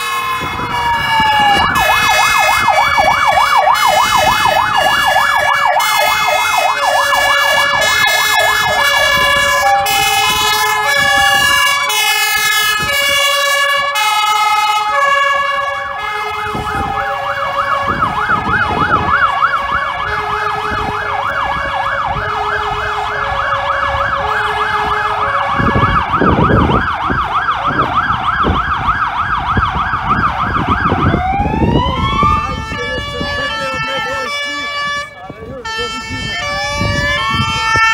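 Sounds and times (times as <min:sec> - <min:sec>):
electronic siren yelp: 0:00.0 - 0:37.9
two-tone siren horn: 0:00.0 - 0:37.9.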